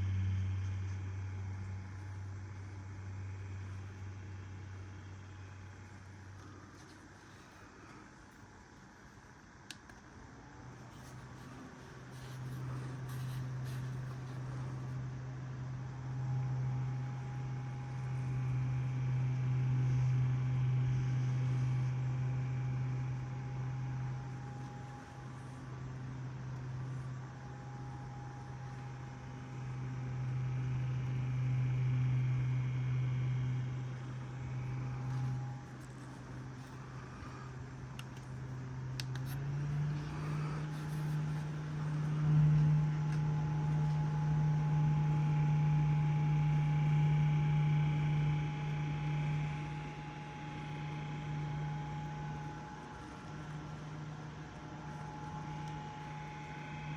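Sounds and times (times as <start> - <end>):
device noisy low hum: 0.0 - 56.9.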